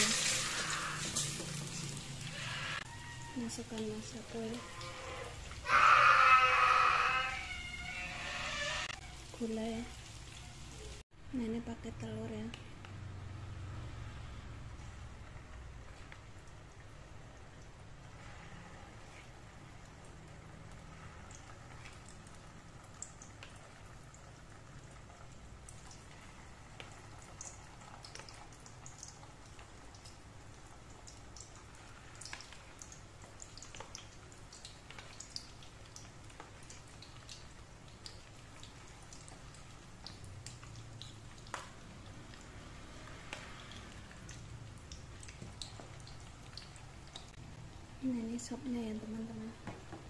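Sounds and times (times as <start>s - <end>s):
frying oil sizzling and popping: 0.0s - 50.0s.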